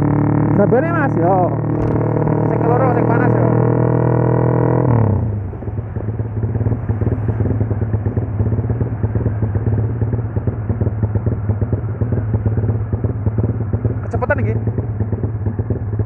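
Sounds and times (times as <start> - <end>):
motorcycle engine revving and popping: 0.0 - 16.0.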